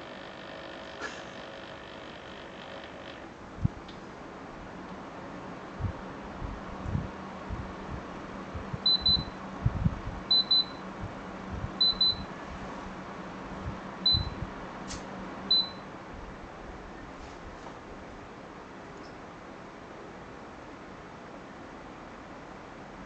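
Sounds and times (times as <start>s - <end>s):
air conditioner beeping: 0.0s - 19.5s
air conditioner fan running: 0.0s - 23.0s.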